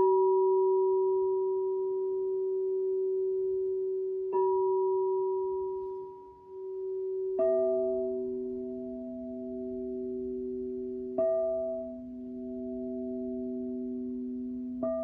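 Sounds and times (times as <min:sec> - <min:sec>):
crystal singing bowls ringing: 0:00.0 - 0:15.0.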